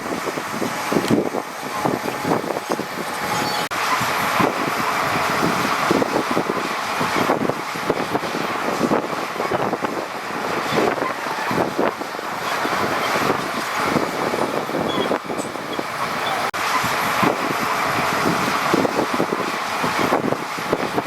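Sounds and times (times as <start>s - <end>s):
heavy diesel machinery droning: 0.0s - 21.0s.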